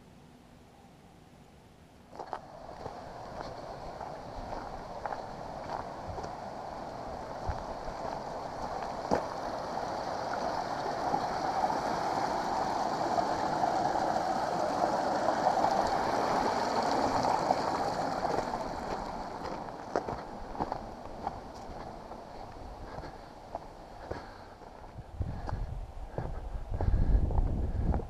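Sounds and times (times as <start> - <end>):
creek rushing: 2.1 - 25.0.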